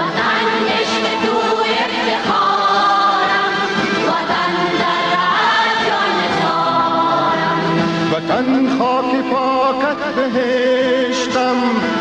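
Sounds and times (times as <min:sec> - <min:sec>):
patriotic song with choir voices: 0:00.0 - 0:12.0.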